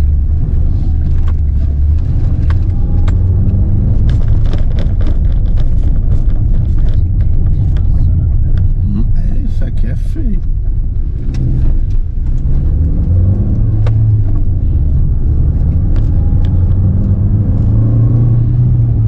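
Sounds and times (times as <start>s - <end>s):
clicks and knocks over bumps: 0.0s - 9.1s, 10.4s - 17.7s
van engine and road drone: 0.0s - 19.0s.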